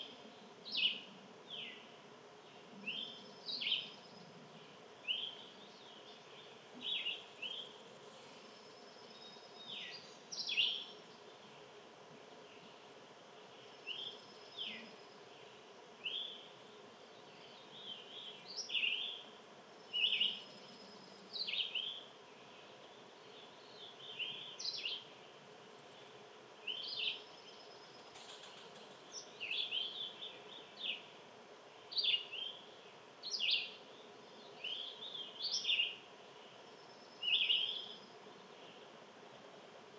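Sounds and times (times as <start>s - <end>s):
faint steady hum: 0.0s - 39.9s
songbirds chirping: 0.0s - 39.9s.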